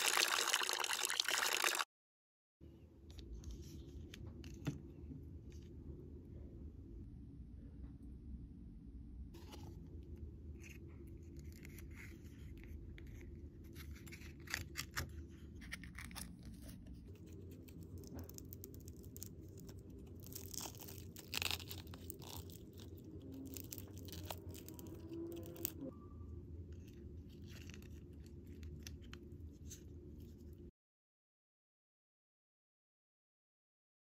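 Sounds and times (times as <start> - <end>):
faint low hum: 2.7 - 30.7.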